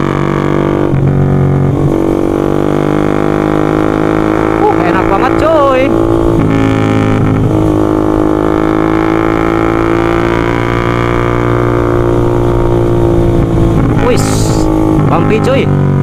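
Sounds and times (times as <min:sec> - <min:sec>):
motorcycle engine droning: 0:00.0 - 0:16.0.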